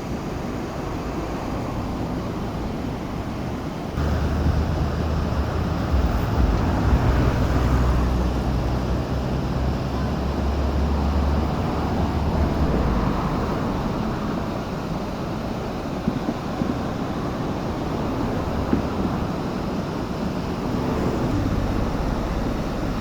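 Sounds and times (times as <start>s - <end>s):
river water rushing: 4.0s - 23.0s
wind buffeting microphone: 4.0s - 23.0s.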